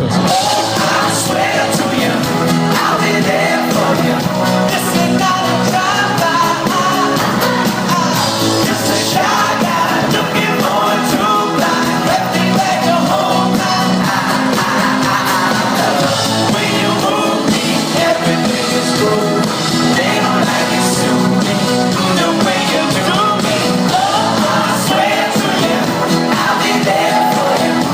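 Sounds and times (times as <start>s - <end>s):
lead singer singing: 0.0s - 27.9s
live pop-rock band playing: 0.0s - 27.9s.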